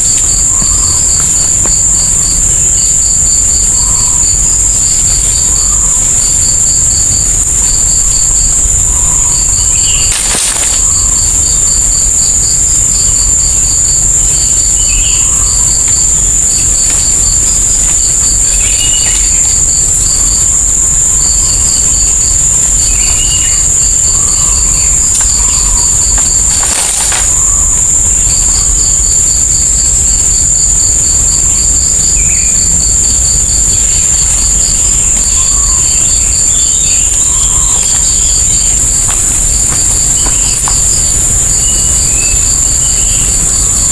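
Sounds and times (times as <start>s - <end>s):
high-pitched insect drone: 0.0s - 43.9s
pulsing insect chirp: 0.0s - 43.9s.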